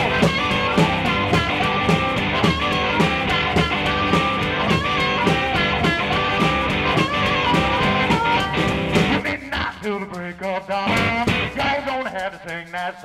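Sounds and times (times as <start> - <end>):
guitar music: 0.0 - 12.0.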